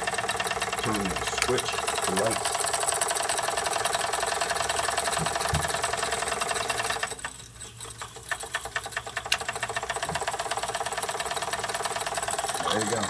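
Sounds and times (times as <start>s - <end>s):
steam engine running: 0.0s - 13.0s.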